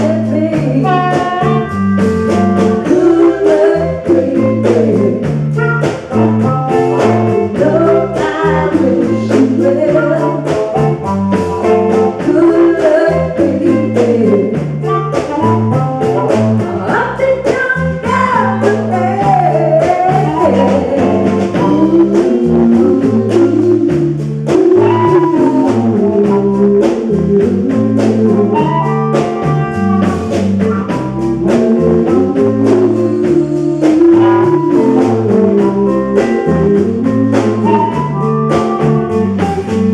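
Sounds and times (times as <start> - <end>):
person singing: 0.0 - 5.4, 6.1 - 15.6, 16.2 - 30.2, 30.8 - 39.9
live band playing: 0.0 - 39.9.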